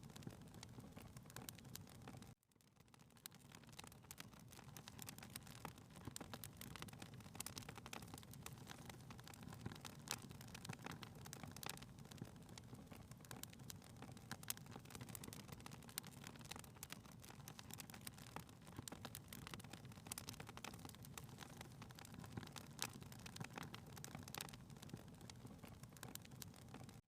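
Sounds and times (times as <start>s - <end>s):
fireplace crackling: 0.0s - 2.4s, 3.0s - 27.0s.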